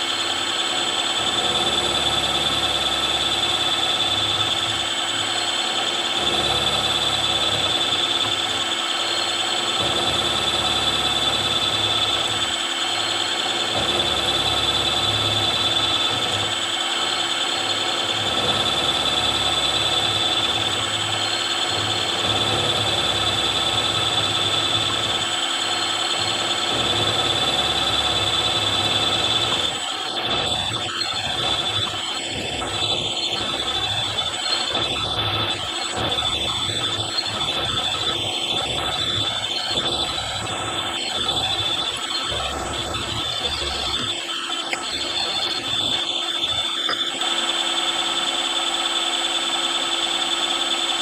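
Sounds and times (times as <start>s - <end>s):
milling machine cutting metal: 0.0s - 51.0s.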